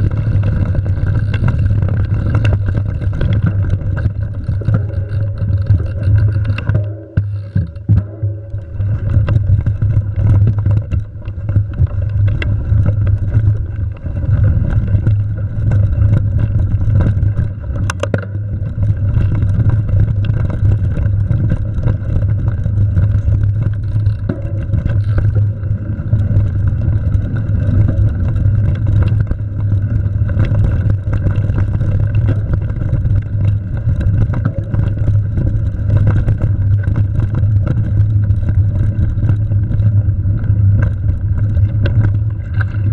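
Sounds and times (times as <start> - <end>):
bike clicks and rattles: 0.0 - 42.9
tyres rolling over dirt: 0.0 - 42.9
wind on microphone: 0.0 - 42.9.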